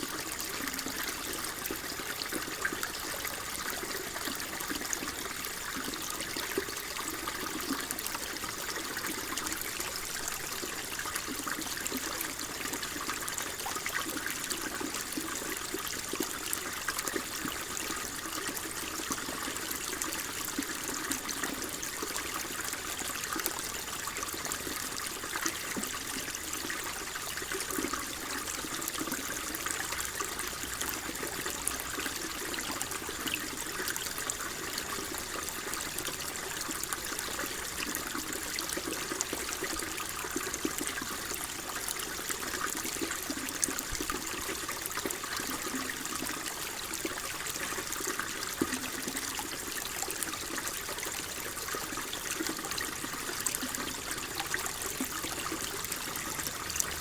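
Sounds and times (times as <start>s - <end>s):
water trickling and burbling: 0.0s - 57.0s.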